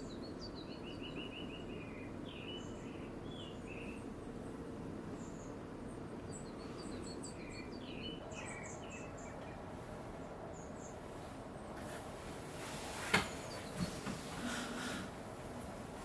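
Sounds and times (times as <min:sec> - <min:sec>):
birds chirping: 0:00.0 - 0:04.2, 0:05.0 - 0:16.0
low background hiss: 0:00.0 - 0:16.0.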